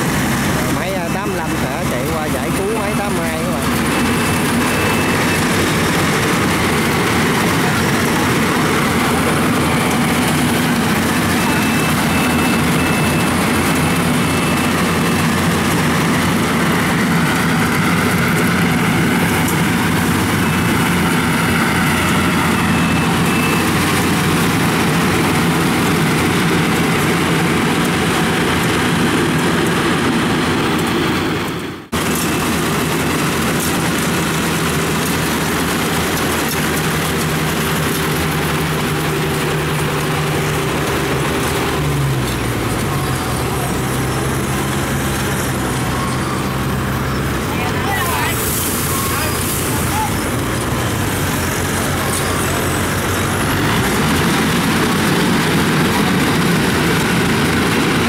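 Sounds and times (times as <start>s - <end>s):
diesel engine drone: 0.0s - 58.0s
machinery clattering: 0.0s - 58.0s.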